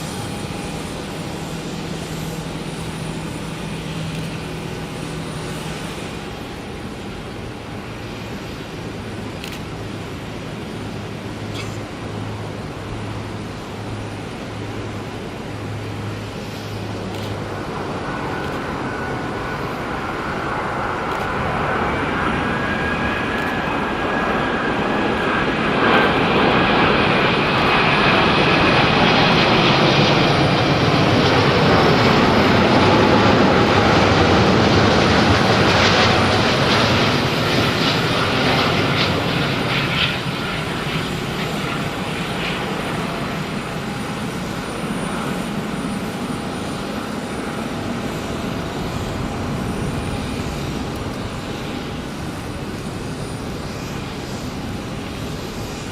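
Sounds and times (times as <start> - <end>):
jet airliner passing: 0.0 - 55.9.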